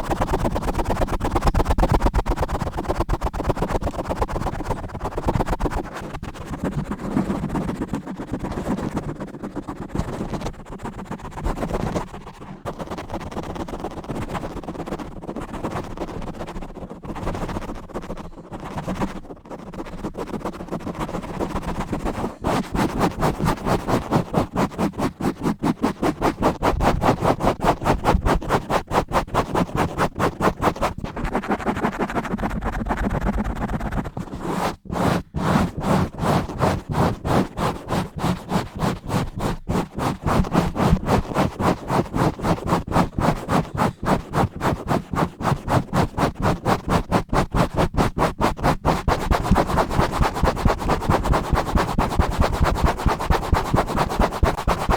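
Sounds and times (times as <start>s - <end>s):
scratching on microphone: 0.0s - 54.9s.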